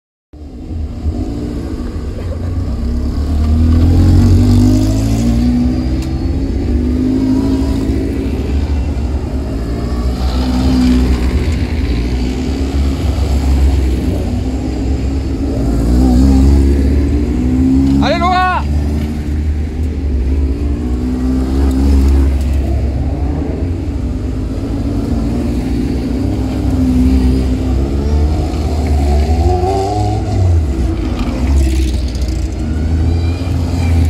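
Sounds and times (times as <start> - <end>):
racing car engines idling and blipping: 0.4 - 34.0.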